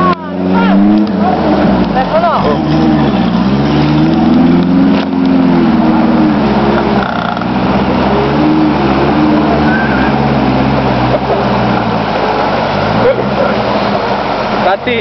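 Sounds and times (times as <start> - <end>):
fast stream rushing: 0.0 - 15.0
off-road engine running: 0.0 - 15.0.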